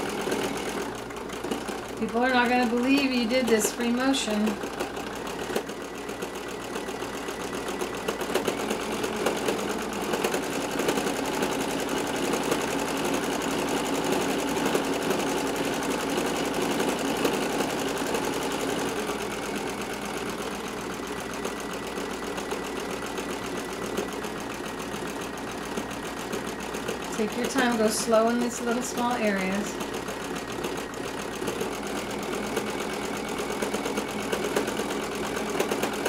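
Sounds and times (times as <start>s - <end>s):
sewing machine running: 0.0s - 36.0s.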